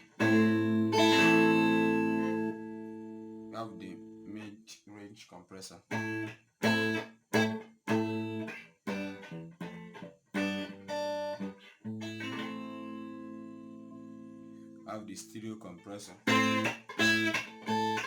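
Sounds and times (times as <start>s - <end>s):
guitar notes and chords: 0.0s - 4.4s, 5.9s - 15.0s, 16.2s - 18.0s.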